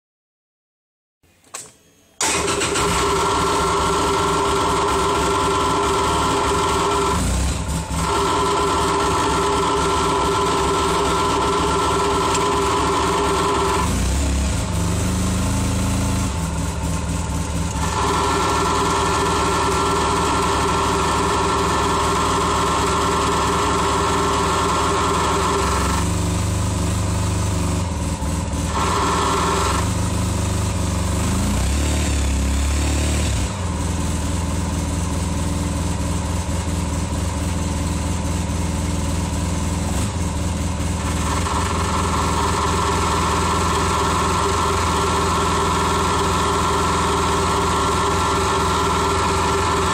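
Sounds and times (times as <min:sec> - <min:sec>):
engine running: 0:02.2 - 0:49.9
engine knock: 0:03.0 - 0:13.9, 0:16.3 - 0:31.4, 0:33.5 - 0:49.9.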